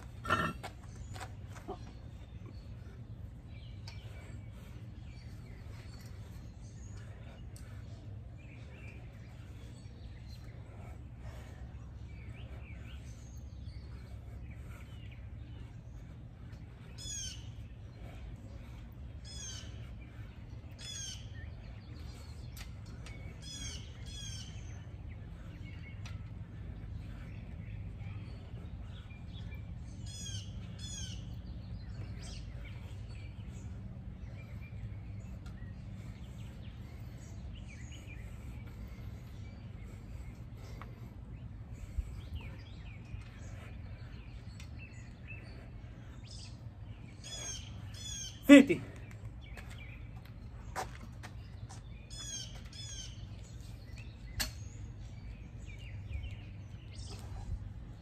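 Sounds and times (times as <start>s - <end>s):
bird chirping: 0.0s - 58.0s
steady low rumble: 0.0s - 58.0s.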